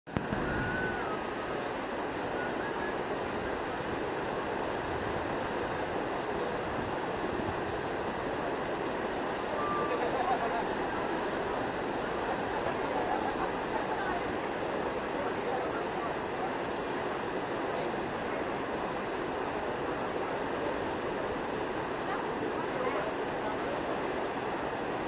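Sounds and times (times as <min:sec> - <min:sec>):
white water churning: 0:00.1 - 0:25.0.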